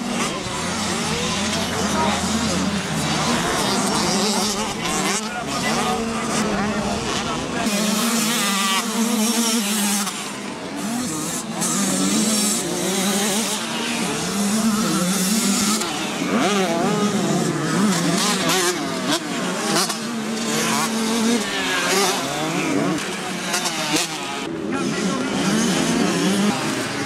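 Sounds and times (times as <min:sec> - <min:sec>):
motocross bike engines revving: 0:00.0 - 0:27.0.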